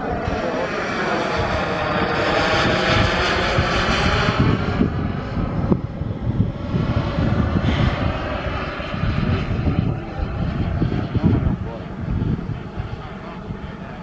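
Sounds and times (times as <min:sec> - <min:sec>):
model jet turbine whine: 0:00.0 - 0:14.0.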